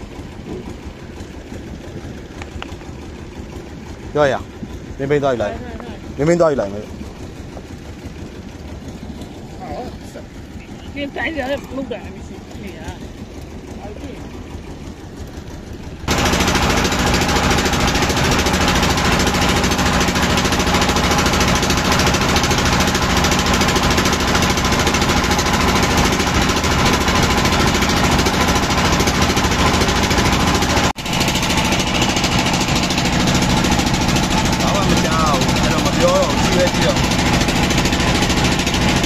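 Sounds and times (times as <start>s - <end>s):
motorboat engine running: 0.0s - 39.0s.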